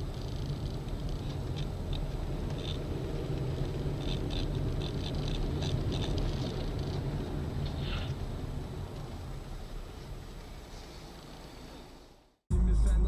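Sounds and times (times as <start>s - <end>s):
vehicle running hum: 0.0s - 13.0s.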